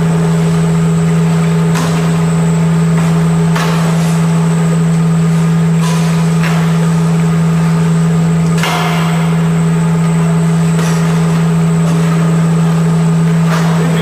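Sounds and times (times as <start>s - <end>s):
machinery low drone: 0.0s - 14.0s.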